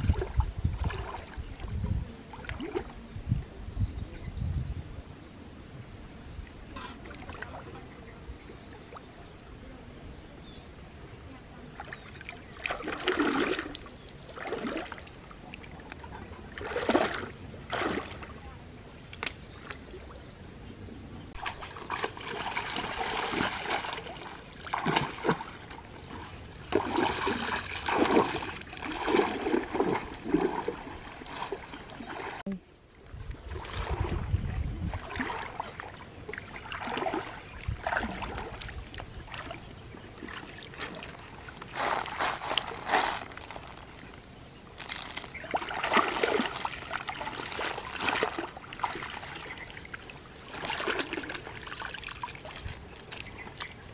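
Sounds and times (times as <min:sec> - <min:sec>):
stream water splashing: 0:00.0 - 0:03.0, 0:06.6 - 0:09.6, 0:11.5 - 0:20.2, 0:21.3 - 0:53.9.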